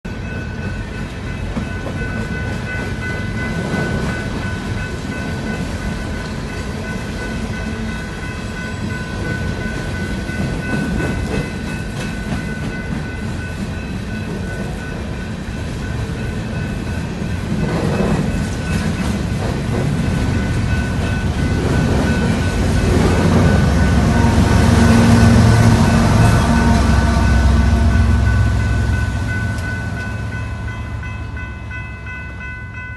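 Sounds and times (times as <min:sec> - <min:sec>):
train rumbling on track: 0:00.1 - 0:32.9
rail clatter: 0:00.2 - 0:32.5.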